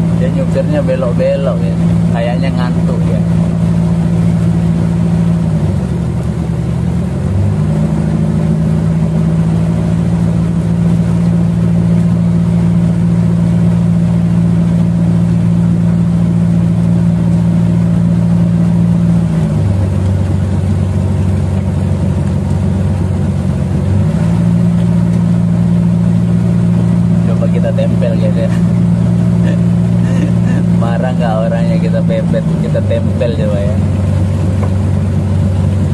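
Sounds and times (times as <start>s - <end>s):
boat engine droning: 0.0s - 35.9s
water churning: 0.0s - 35.9s.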